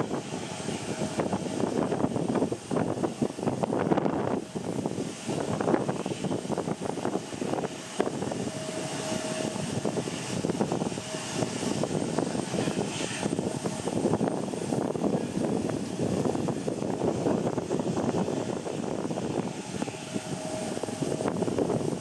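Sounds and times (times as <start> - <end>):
jet airliner engines running: 0.0 - 22.0
wind buffeting microphone: 0.0 - 22.0.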